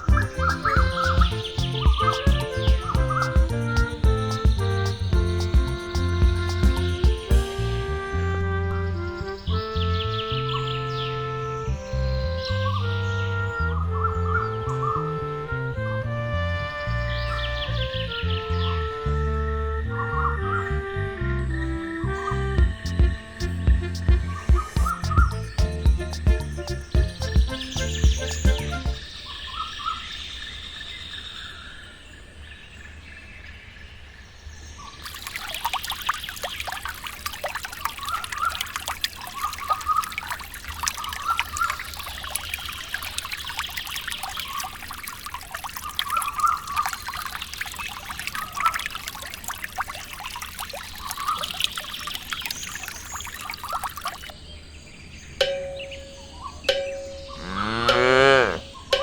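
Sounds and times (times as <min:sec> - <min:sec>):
birds chirping: 0:00.0 - 0:15.0, 0:21.2 - 0:31.6, 0:32.8 - 0:59.0
water pouring and trickling: 0:00.0 - 0:30.0, 0:34.8 - 0:54.4, 0:55.2 - 0:59.0.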